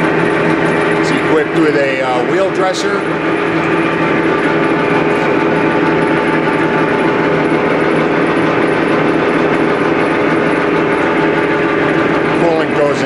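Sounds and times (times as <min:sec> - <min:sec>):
surface grinder humming: 0:00.0 - 0:13.0.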